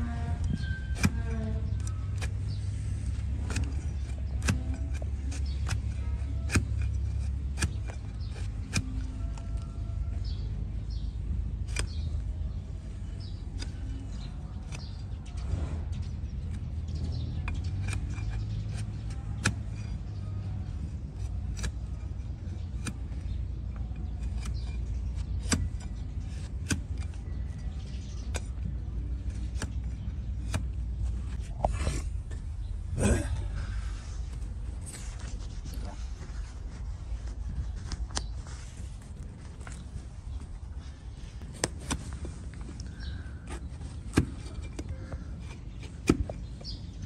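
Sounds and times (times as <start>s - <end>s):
hoof knife paring hoof: 0.0s - 10.3s, 10.9s - 47.0s
low background rumble: 0.0s - 47.0s.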